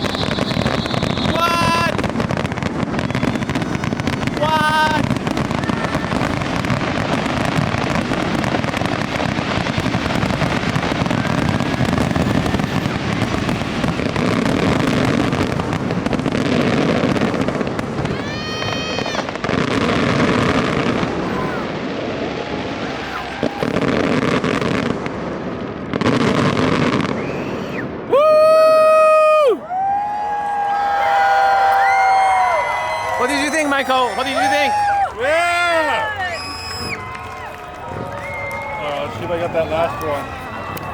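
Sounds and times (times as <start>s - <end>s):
spectator cheering woo: 0.0s - 15.7s, 18.0s - 19.6s, 20.9s - 24.4s, 27.0s - 40.9s
firework whistle: 0.0s - 25.0s, 26.0s - 40.9s
fireworks bursting and crackling: 0.0s - 40.9s.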